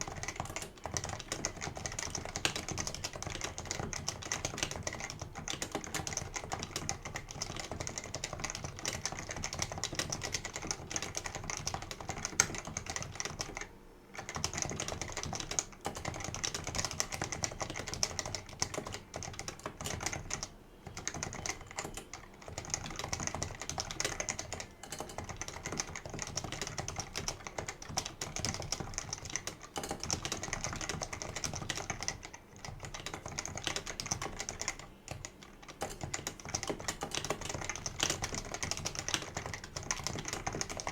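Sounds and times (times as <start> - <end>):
fast typing on a keyboard: 0.0 - 40.9.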